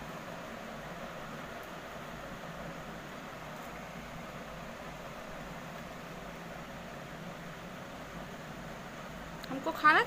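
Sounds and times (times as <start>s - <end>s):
background hiss: 0.0s - 10.0s.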